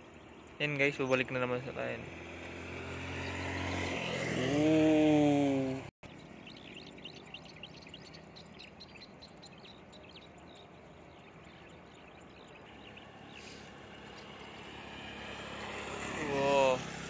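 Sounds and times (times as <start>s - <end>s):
small motorcycle approaching: 1.1s - 17.0s.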